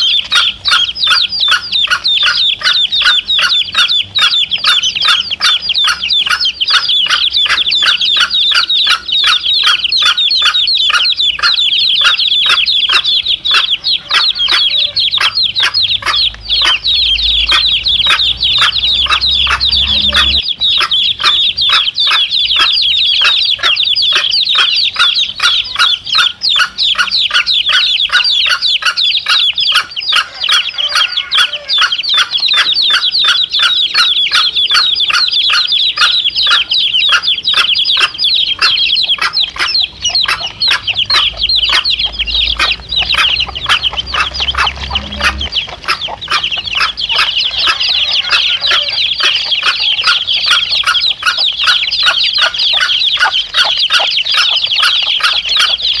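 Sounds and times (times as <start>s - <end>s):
chicks cheeping: 0.0s - 56.0s
hen clucking: 0.0s - 56.0s.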